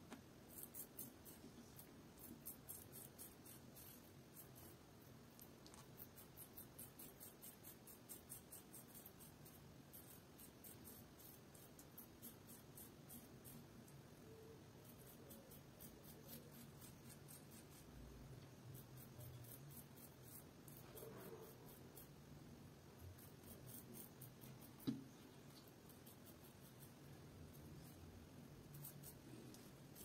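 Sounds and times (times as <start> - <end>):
razor scratching stubble: 0.4 - 13.7, 14.8 - 22.2, 23.0 - 30.0.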